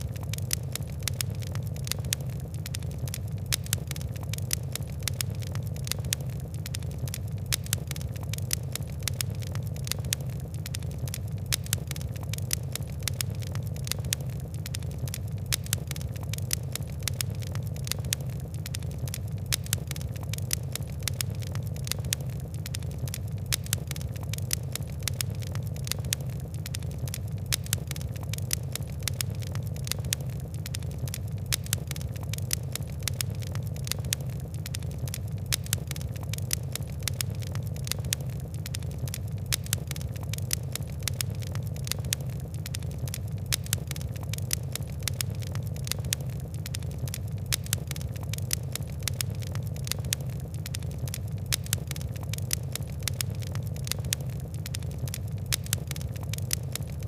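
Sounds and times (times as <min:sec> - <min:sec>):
fire crackling and popping: 0:00.0 - 0:57.0
low rumble of burning: 0:00.0 - 0:57.0.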